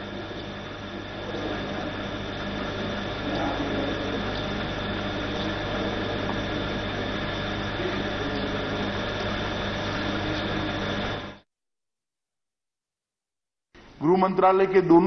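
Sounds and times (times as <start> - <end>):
room hum and hiss: 0.0 - 11.4, 13.8 - 15.0.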